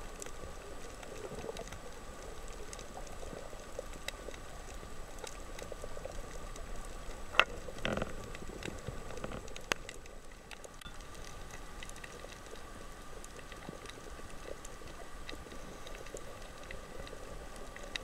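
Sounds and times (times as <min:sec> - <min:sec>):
faint steady hum: 0:00.0 - 0:18.0
sharp underwater clicks: 0:00.2 - 0:18.0.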